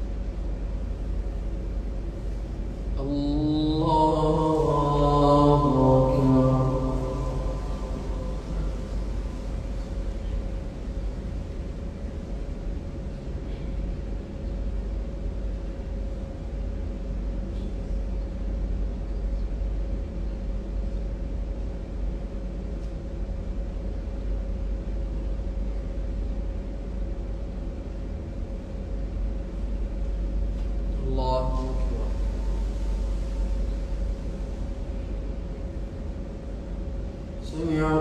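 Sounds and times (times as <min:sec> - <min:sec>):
low rumble and hiss: 0:00.0 - 0:38.0
mid-pitched hum: 0:00.0 - 0:38.0.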